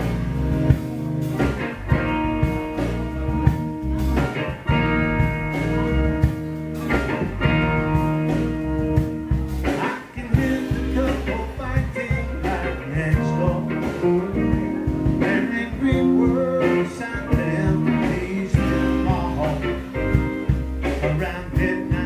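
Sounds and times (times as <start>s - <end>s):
bass: 0.0s - 22.0s
drum kit: 0.0s - 22.0s
electric guitar chords: 0.0s - 22.0s.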